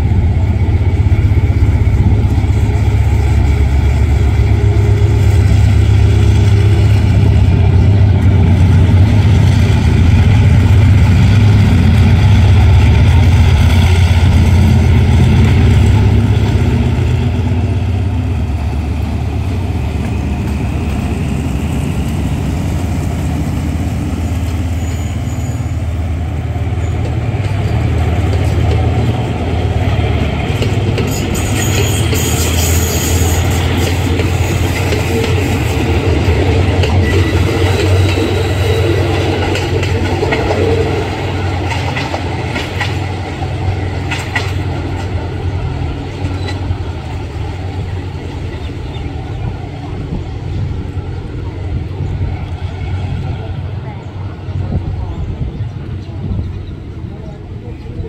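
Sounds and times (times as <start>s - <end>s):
locomotive diesel engine: 0.0s - 58.0s.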